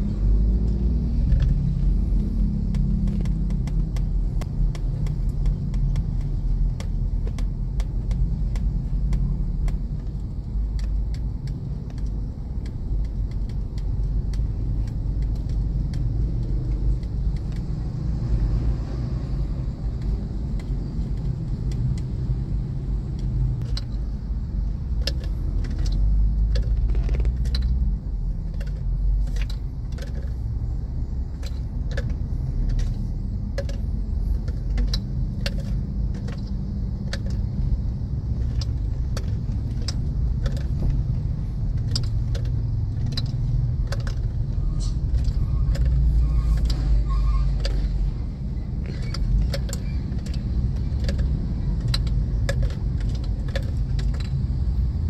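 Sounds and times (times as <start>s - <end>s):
engine and tyre rumble: 0.0s - 55.0s
small clicks and rattles: 0.4s - 55.0s.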